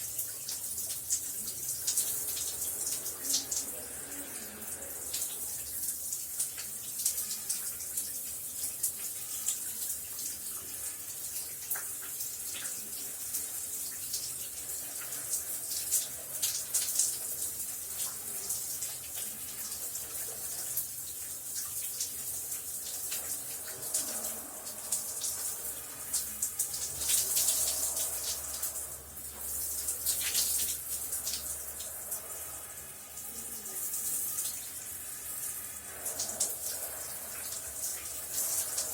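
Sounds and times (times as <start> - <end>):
shower water spraying: 0.0 - 38.9.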